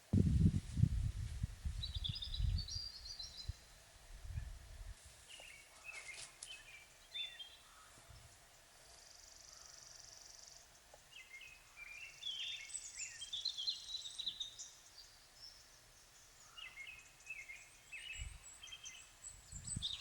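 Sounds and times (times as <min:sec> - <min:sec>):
small birds chirping: 0:01.7 - 0:04.5, 0:05.2 - 0:20.0.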